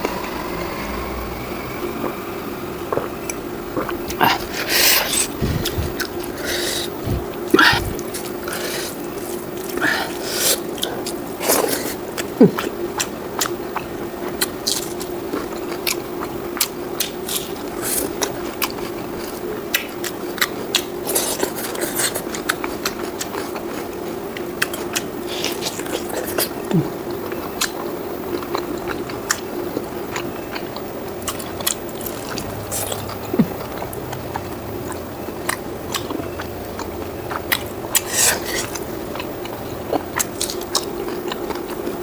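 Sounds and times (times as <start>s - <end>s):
steady low hum: 0.0s - 42.0s
chewing and biting food: 2.0s - 42.0s.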